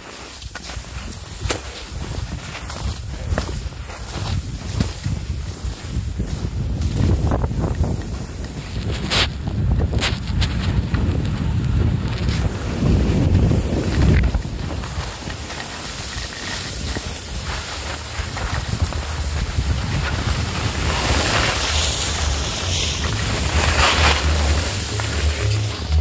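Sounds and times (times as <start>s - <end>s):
skis sliding on snow: 0.0s - 26.0s
wind buffeting microphone: 0.6s - 26.0s.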